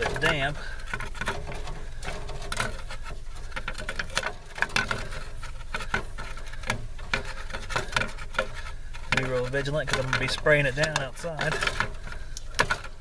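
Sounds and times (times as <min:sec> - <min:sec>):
tape clicking and crackling: 0:00.0 - 0:13.0.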